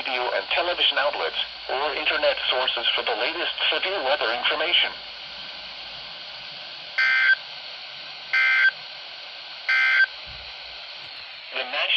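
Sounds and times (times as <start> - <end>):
radio hiss: 0.0 - 11.9.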